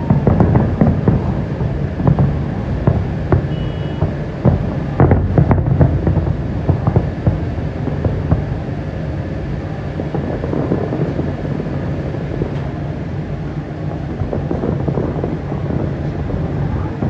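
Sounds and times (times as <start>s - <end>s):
fireworks bangs and pops: 0.0s - 17.0s
low rumble: 0.0s - 17.0s.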